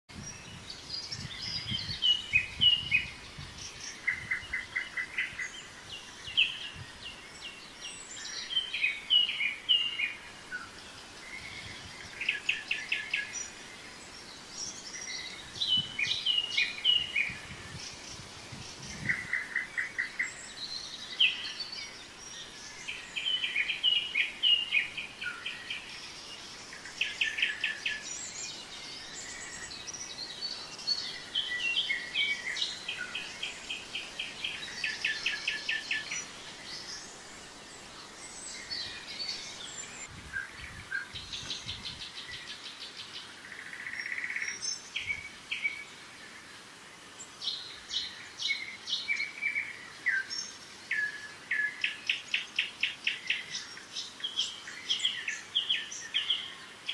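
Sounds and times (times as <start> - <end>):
birds chirping and trilling: 0.1 - 56.9.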